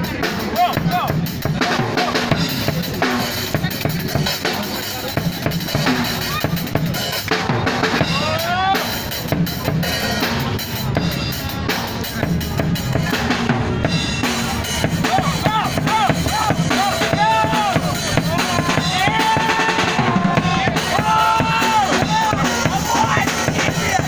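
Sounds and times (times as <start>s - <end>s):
drum-heavy music: 0.0s - 24.0s.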